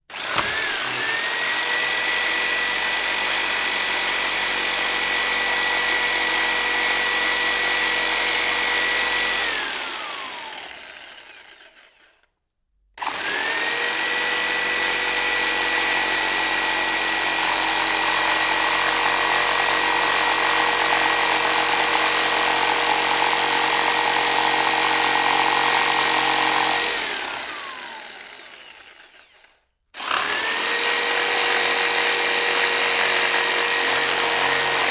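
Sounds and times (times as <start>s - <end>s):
electric jigsaw whining: 0.0s - 12.4s, 13.0s - 34.9s.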